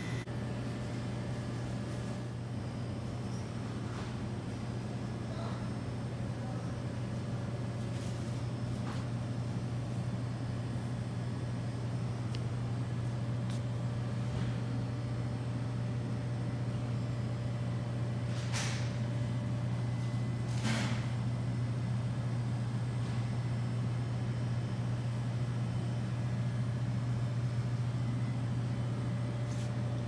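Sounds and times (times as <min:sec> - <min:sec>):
room tone hum: 0:00.0 - 0:30.0.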